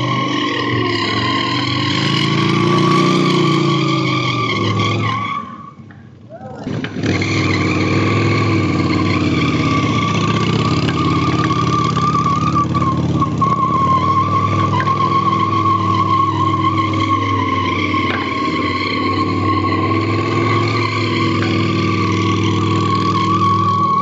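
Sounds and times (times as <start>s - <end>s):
motorcycle engine running hard: 0.0s - 5.0s, 6.6s - 24.0s
tyre squealing: 0.0s - 24.0s.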